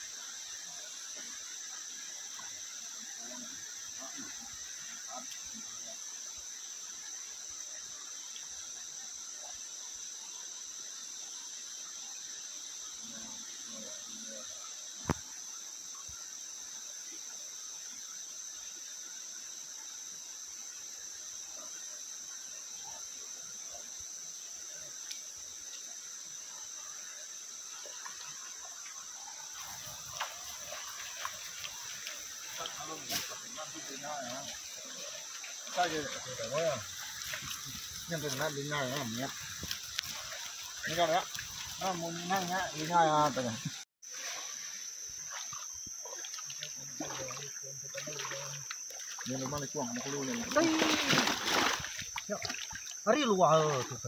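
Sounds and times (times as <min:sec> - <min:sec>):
insect chorus chirring: 0:00.0 - 0:54.0
shallow river flowing: 0:00.0 - 0:54.0.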